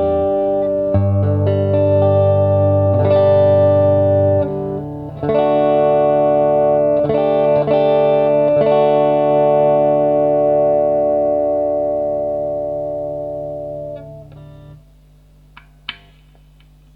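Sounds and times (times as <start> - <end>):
electric guitar chords: 0.0 - 16.2.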